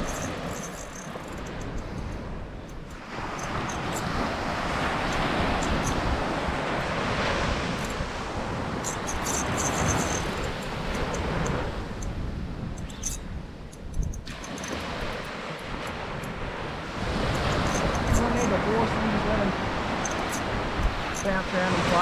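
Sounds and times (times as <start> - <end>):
surf washing on beach: 0.0 - 22.0
wind buffeting microphone: 0.0 - 22.0.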